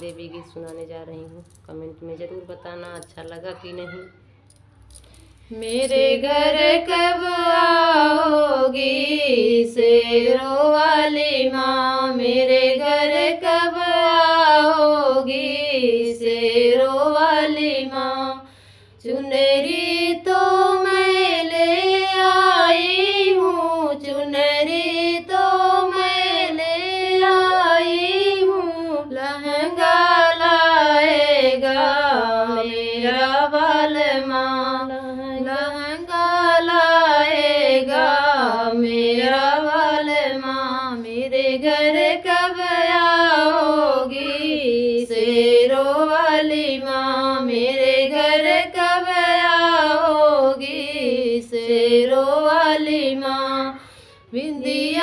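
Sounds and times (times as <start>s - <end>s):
women singing unaccompanied: 5.4s - 55.0s.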